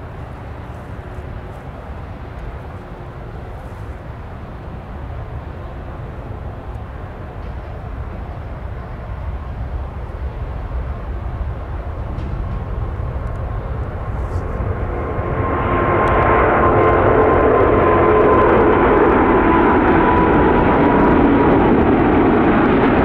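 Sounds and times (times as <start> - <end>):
distant jet engine rumble: 0.0 - 23.0.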